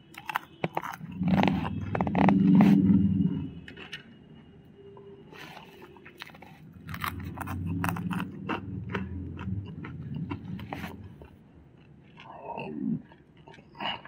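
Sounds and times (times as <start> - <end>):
chewing crispy food: 0.0 - 4.0, 5.3 - 14.0.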